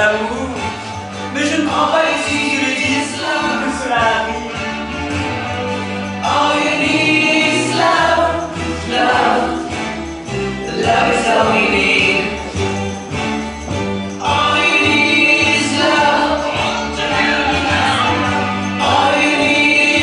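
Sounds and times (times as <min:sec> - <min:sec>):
instrumental accompaniment: 0:00.0 - 0:20.0
voices singing together: 0:01.4 - 0:04.9, 0:06.0 - 0:13.4, 0:14.0 - 0:20.0.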